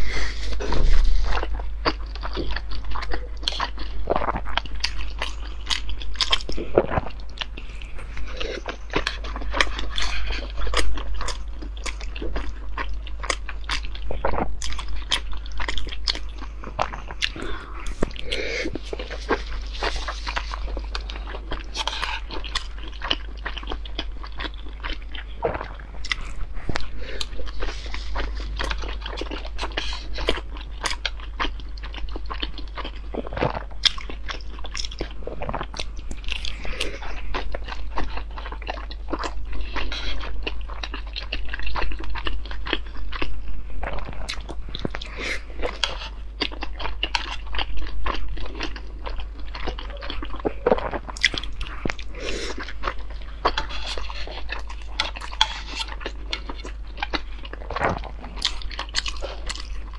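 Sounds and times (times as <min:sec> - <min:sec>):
person chewing dumplings: 0:00.0 - 0:59.9
steady low hum: 0:00.0 - 0:59.9.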